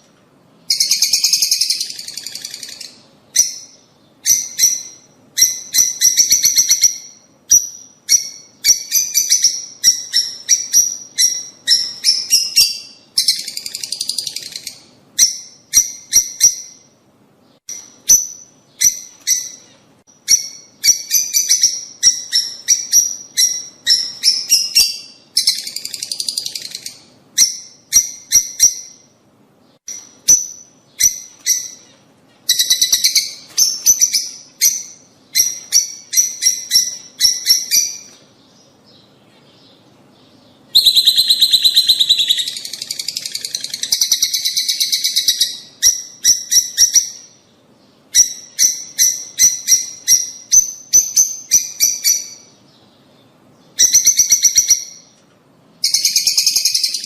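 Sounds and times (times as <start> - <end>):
lovebirds chirping: 0.0 - 57.0
birds chattering: 0.6 - 57.0.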